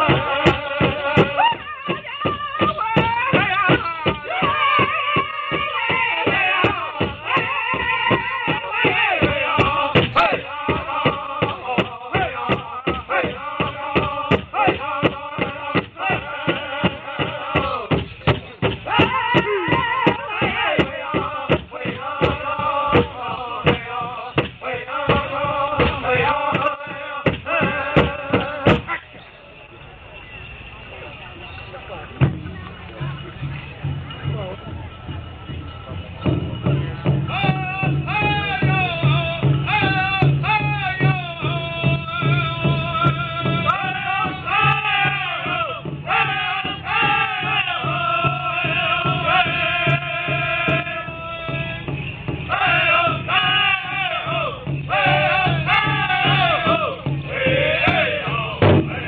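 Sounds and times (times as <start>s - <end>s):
large drum steady beat: 0.0s - 29.1s, 32.1s - 59.0s.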